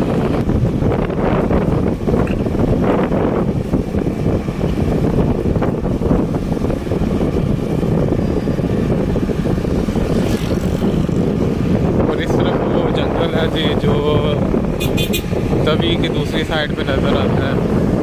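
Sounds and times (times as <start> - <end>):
vehicle moving on road: 0.0 - 18.0
wind buffeting microphone: 0.0 - 18.0.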